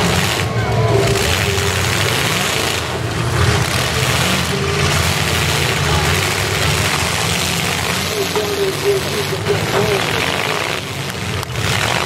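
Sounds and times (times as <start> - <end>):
many car engines running: 0.0 - 12.0.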